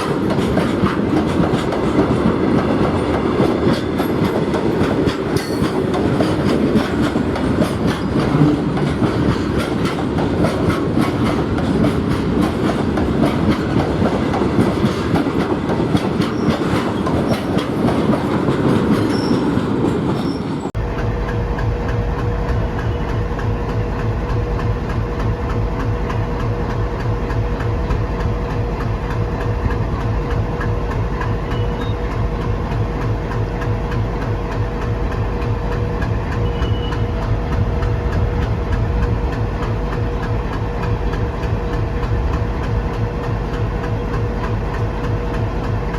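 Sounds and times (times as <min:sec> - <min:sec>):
diesel locomotive idling: 0:00.0 - 0:45.9
train wheels clattering over rail joints: 0:00.0 - 0:45.9.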